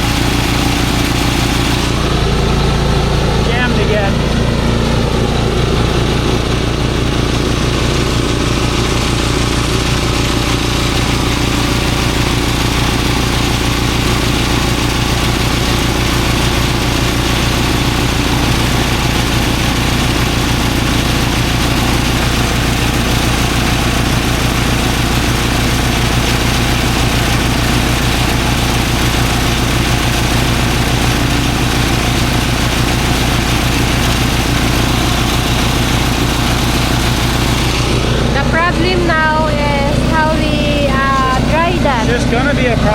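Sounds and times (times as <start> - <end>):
threshing machine drone: 0.0 - 42.9.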